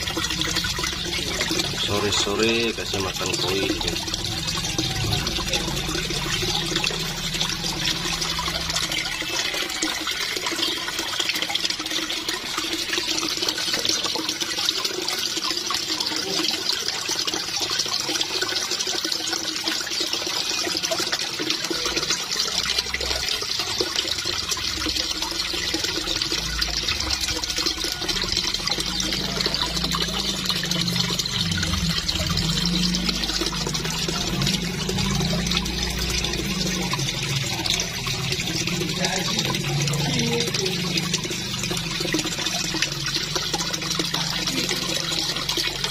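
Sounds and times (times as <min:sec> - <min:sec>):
stream pouring into a pond: 0:00.0 - 0:45.9.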